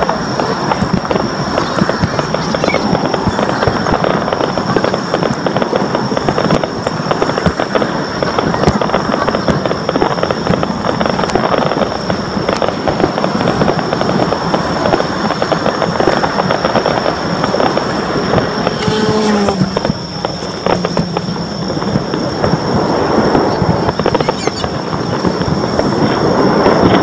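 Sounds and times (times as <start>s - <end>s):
fireworks crackling and popping: 0.0s - 27.0s
high-pitched whine: 0.0s - 27.0s.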